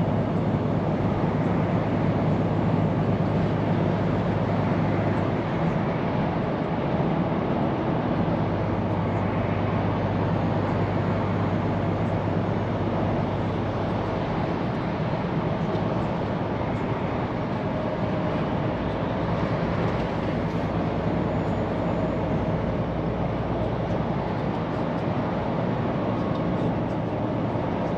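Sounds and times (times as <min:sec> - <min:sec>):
road and tyre noise: 0:00.0 - 0:27.9.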